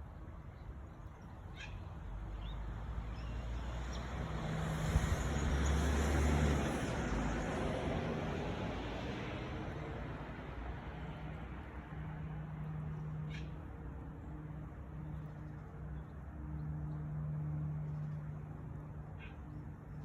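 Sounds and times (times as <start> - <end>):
road vehicle passing: 2.1 - 20.0.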